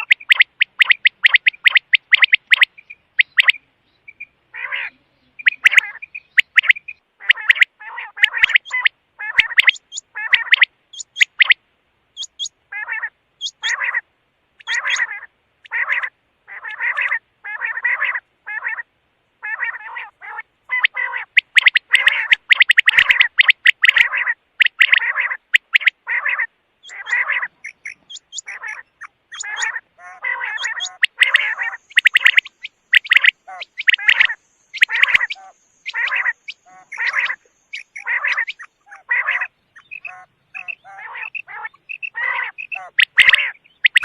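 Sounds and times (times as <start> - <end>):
quail calling: 0.0 - 44.0.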